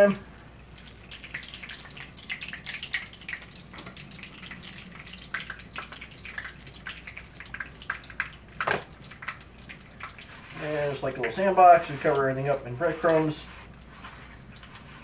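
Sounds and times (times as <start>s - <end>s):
cheese sizzling in oil: 0.0s - 15.0s
oil crackling and popping: 0.0s - 15.0s.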